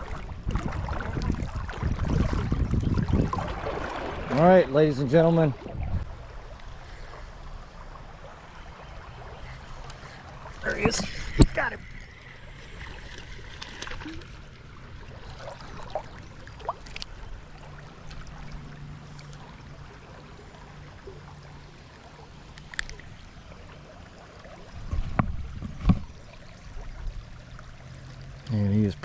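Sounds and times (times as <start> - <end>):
creek water running: 0.0 - 29.0.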